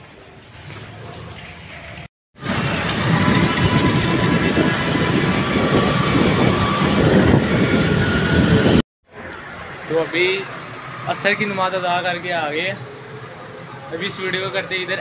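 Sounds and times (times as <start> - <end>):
loud road traffic rumble: 0.4 - 15.0.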